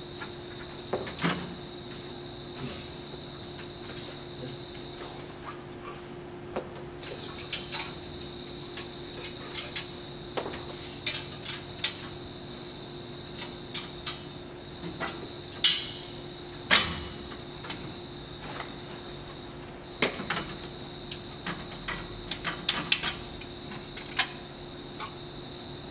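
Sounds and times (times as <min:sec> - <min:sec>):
faint high whine: 0:00.0 - 0:25.9.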